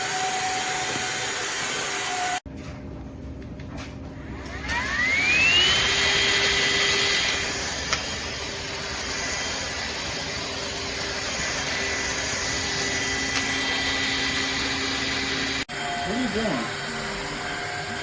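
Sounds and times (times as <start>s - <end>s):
vacuum cleaner whining: 0.0s - 2.4s, 4.1s - 18.0s.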